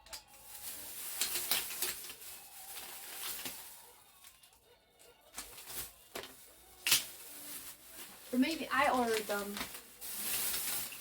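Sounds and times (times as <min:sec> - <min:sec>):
packaging rustling and clicking: 0:00.0 - 0:04.6, 0:05.3 - 0:11.0.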